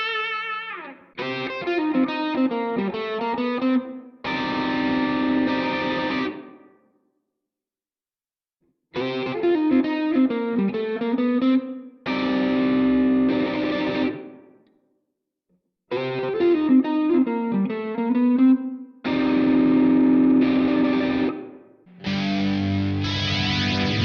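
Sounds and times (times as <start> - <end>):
electric guitar chords and notes: 0.0 - 6.8, 8.9 - 14.6, 15.9 - 24.0.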